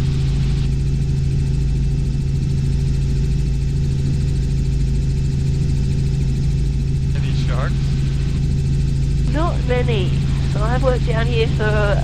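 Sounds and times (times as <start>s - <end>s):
helicopter engine and rotors droning: 0.0s - 12.0s.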